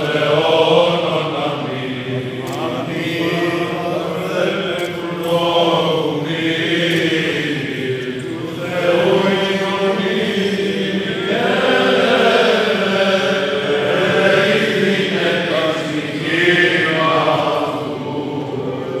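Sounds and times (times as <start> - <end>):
men chanting long notes: 0.0 - 19.0.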